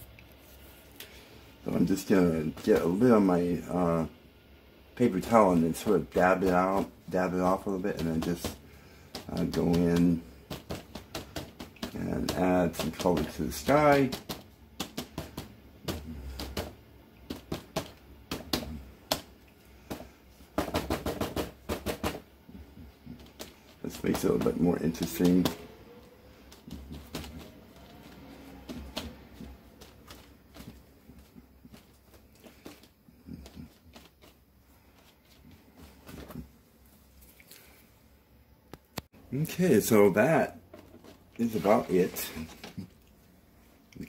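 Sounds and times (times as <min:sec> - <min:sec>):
paper towel dabbing on paper: 0:05.0 - 0:37.8, 0:39.8 - 0:43.0.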